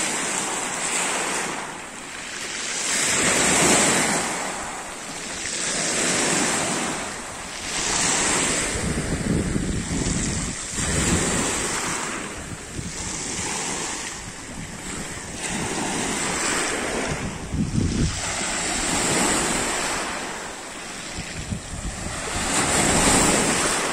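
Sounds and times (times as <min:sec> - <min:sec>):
small waves breaking on pebbles: 0:00.0 - 0:23.9
wind gusts on microphone: 0:02.8 - 0:23.9.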